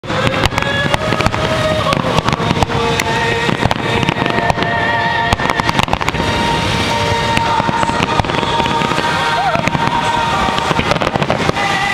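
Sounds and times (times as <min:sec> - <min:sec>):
fireworks bangs and crackles: 0:00.0 - 0:11.9
steady held tones: 0:00.0 - 0:11.9.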